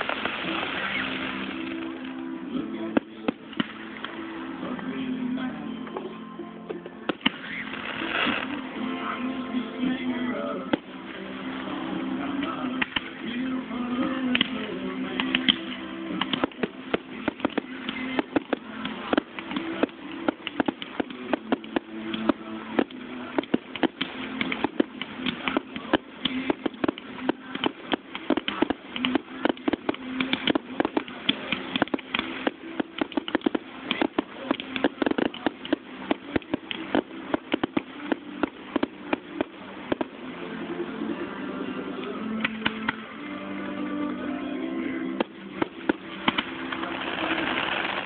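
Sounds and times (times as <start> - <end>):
fireworks bursting and crackling: 0.0 - 4.6, 7.1 - 40.3, 42.4 - 43.2, 45.2 - 48.0.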